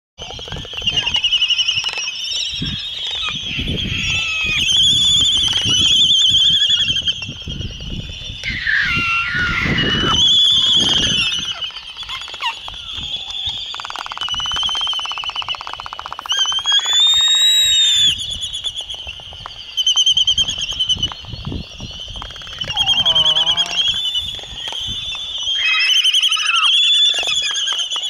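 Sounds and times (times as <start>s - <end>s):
chorus of high bird calls: 0.2s - 28.0s
loud whistled bird call: 0.2s - 28.0s.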